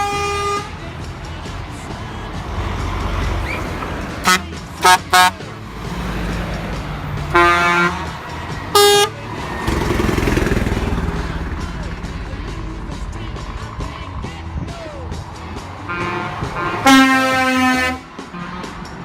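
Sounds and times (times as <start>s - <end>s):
low engine rumble: 0.0s - 19.0s
truck horns: 0.0s - 19.0s.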